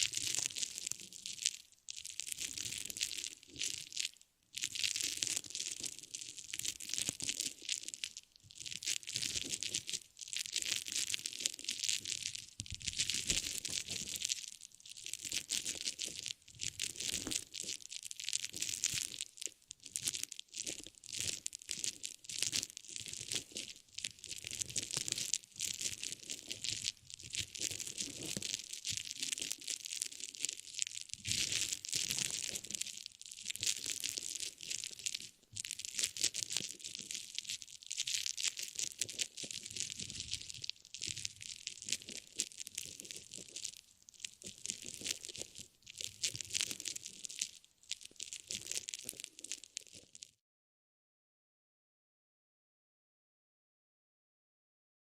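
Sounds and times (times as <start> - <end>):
crinkling material crushed by hand: 0.0 - 50.4.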